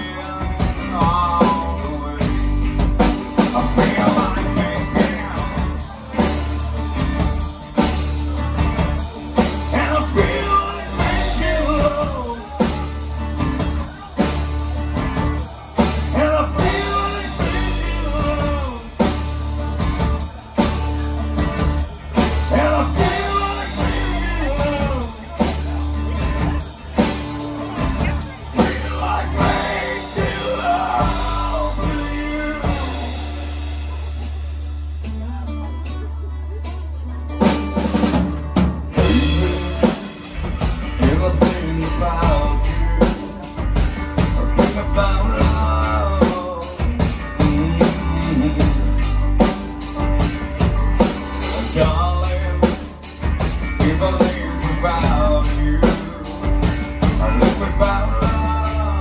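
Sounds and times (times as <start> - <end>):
person singing: 0.0 - 8.5, 9.4 - 14.6, 15.2 - 19.2, 22.2 - 34.2, 39.0 - 50.7, 51.4 - 59.0
live rock band playing: 0.0 - 59.0.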